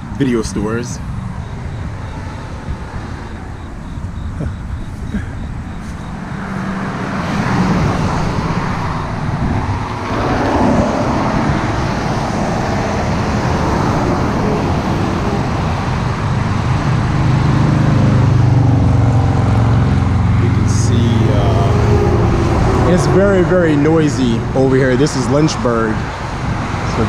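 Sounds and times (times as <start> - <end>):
cars rushing past: 0.0 - 27.0
deep engine drone: 0.9 - 27.0.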